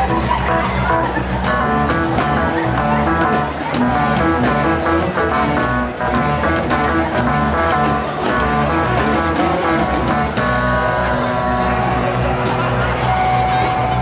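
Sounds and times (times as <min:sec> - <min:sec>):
drum kit beat: 0:00.0 - 0:14.0
electric guitar: 0:00.0 - 0:14.0
jazz hip hop band playing: 0:00.0 - 0:14.0
keyboard: 0:00.0 - 0:14.0
saxophone: 0:00.0 - 0:14.0.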